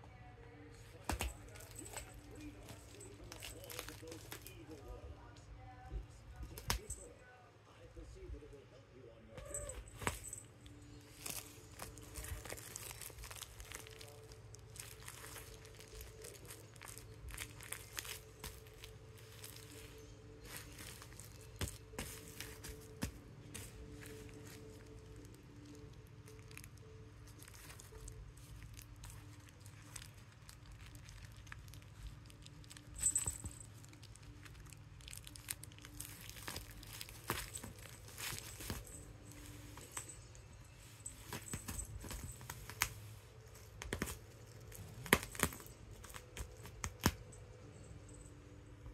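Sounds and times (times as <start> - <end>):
bubble wrap crinkling: 0.9 - 5.0, 9.4 - 47.4.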